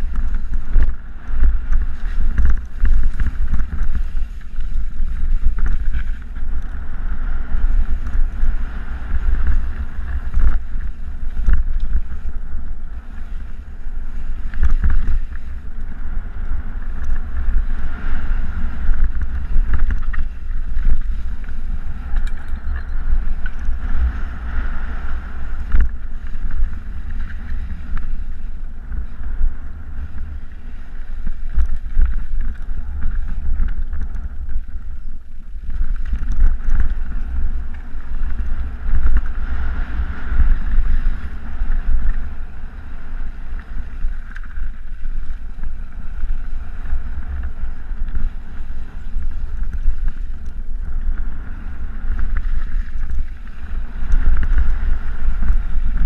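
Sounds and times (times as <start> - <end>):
mountain bike rattling on dirt trail: 0.0 - 56.0
wind buffeting microphone: 0.0 - 56.0.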